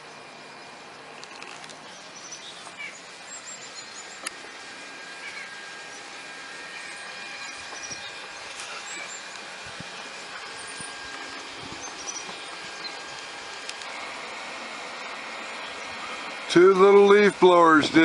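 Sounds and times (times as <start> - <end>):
small birds chirping: 0.0 - 16.5
leaf blowers running: 0.0 - 18.0.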